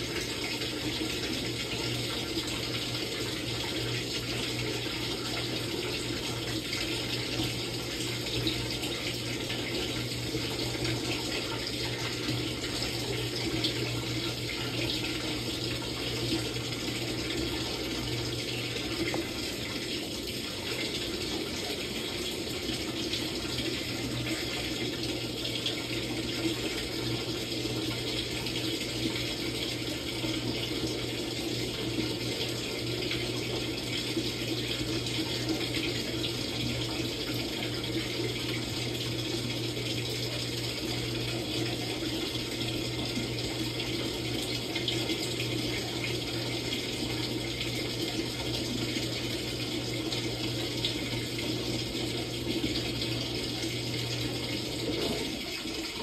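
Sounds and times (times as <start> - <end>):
washing machine low hum: 0.0 - 56.0
water rushing in washing machine: 0.0 - 56.0.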